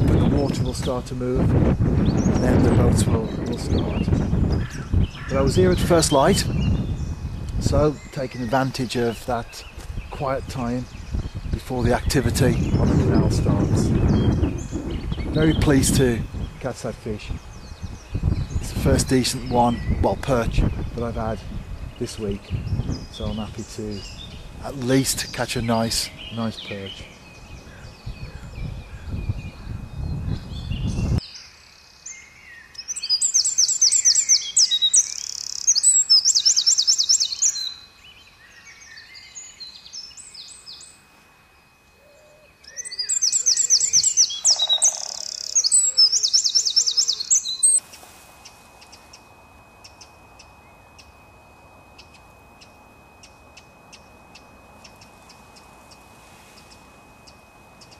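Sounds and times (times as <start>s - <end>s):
songbird trilling: 2.0s - 41.1s, 41.8s - 57.9s.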